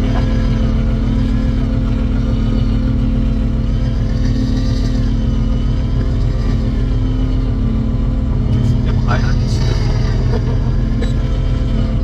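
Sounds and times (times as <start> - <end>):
boat engine droning: 0.0 - 12.0
higher wavering whine: 0.0 - 12.0.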